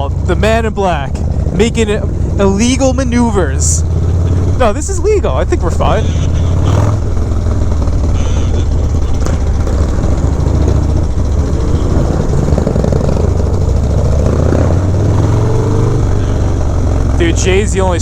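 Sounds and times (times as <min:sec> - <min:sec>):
motorcycle exhaust rumble: 0:00.0 - 0:18.0.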